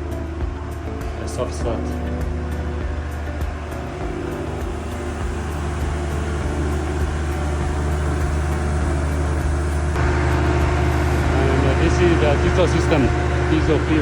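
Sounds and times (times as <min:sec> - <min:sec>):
large diesel engines humming: 0:00.0 - 0:14.0.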